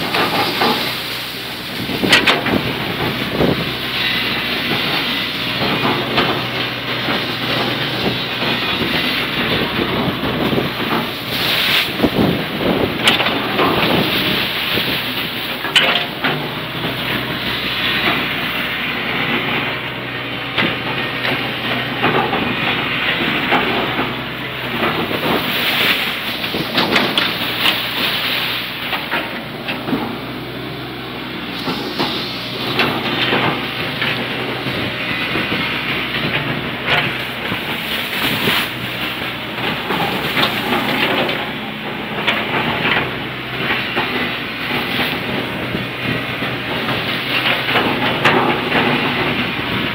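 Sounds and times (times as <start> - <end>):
excavator diesel engine running: 0.0 - 49.9
water churning and splashing: 0.0 - 49.9.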